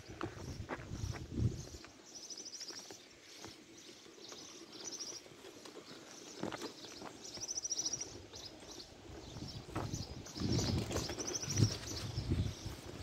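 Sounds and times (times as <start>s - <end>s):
footsteps on a dirt path: 0.0s - 13.0s.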